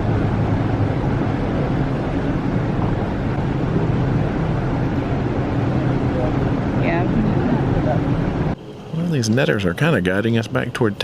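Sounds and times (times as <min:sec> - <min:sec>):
wind and water rushing: 0:00.0 - 0:09.5
boat engine humming: 0:00.0 - 0:11.0.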